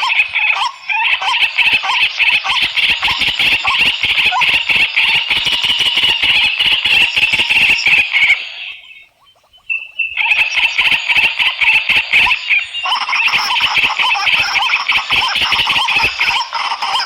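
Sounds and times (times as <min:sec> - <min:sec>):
small animals chirping: 0:00.0 - 0:17.0.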